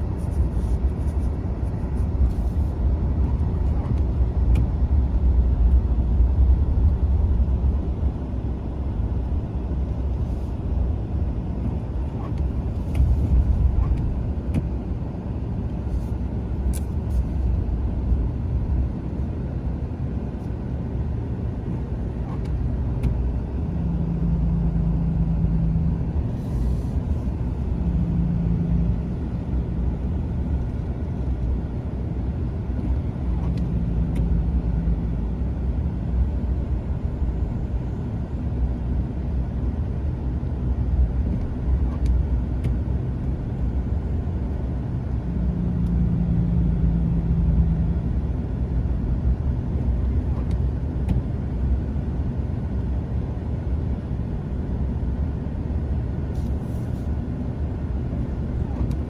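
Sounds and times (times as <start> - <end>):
car road rumble: 0.0 - 59.0.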